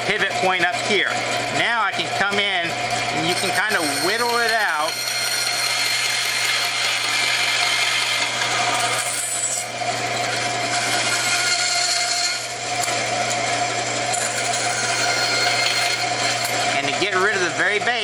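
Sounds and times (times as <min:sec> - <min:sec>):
band saw cutting wood: 0:00.0 - 0:18.0
steady motor hum: 0:00.0 - 0:18.0.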